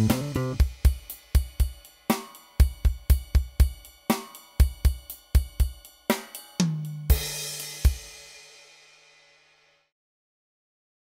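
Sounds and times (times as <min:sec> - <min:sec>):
music with drum beat: 0:00.0 - 0:09.8.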